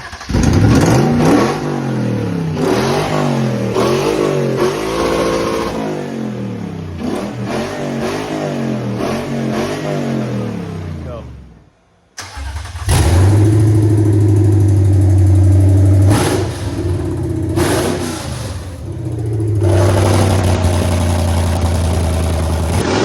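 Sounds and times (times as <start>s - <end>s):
car exhaust revving: 0.3s - 11.1s, 12.8s - 23.0s.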